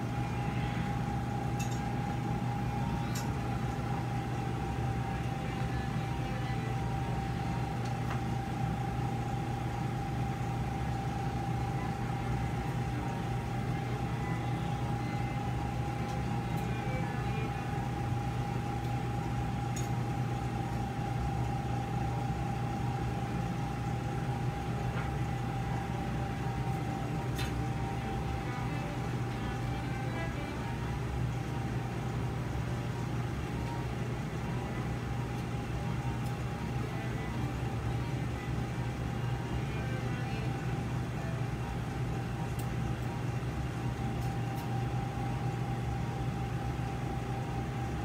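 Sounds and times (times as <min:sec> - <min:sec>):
equipment humming: 0:00.0 - 0:48.0.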